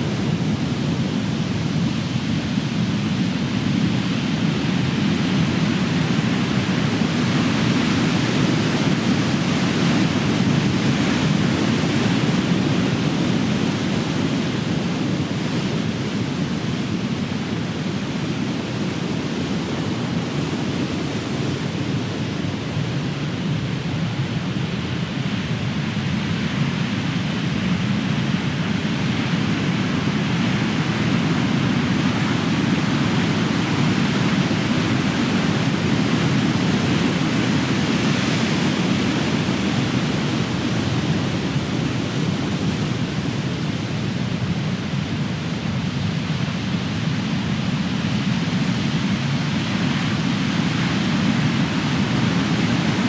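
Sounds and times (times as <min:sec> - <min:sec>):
ocean waves crashing on shore: 0:05.4 - 0:53.0.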